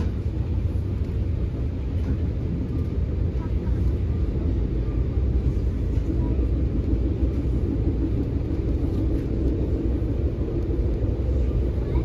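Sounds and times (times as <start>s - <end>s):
faint hum: 0.0s - 12.0s
train rumbling inside carriage: 0.0s - 12.0s.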